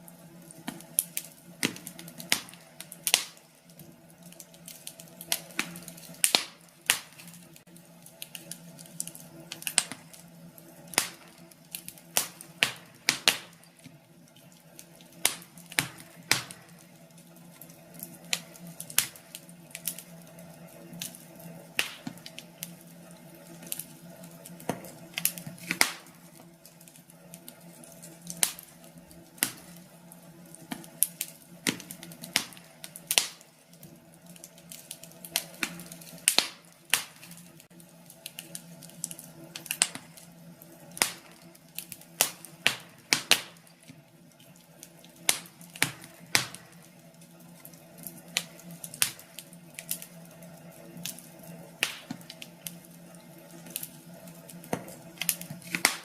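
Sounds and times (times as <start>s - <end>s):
faint steady background noise: 0.0s - 56.0s
wood fire crackling: 0.0s - 56.0s.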